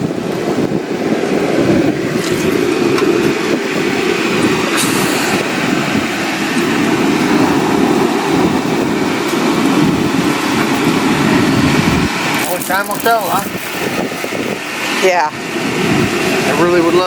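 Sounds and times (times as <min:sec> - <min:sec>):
heater blowing: 0:00.0 - 0:17.0.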